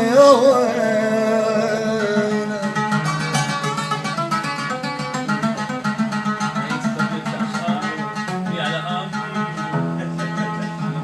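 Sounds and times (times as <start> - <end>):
oud plucked notes: 0.0 - 11.0.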